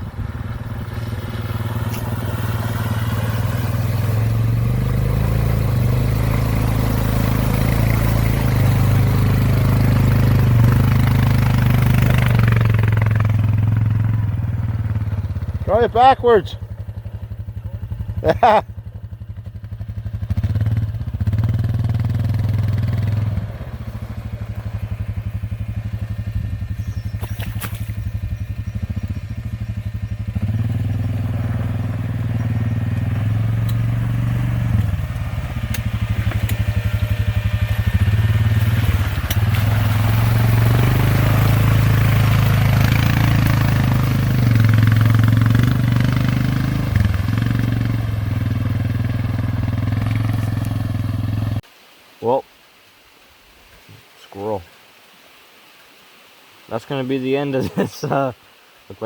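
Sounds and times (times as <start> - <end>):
atv engine running: 0.0 - 51.6.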